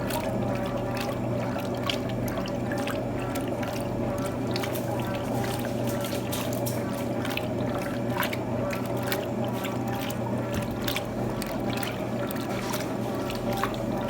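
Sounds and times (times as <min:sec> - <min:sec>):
washing machine motor hum: 0:00.0 - 0:14.0
water sloshing: 0:00.0 - 0:14.0.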